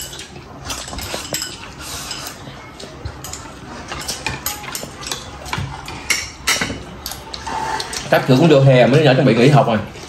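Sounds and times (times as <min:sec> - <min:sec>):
cutlery clinking on ceramic bowls: 0:00.0 - 0:08.1.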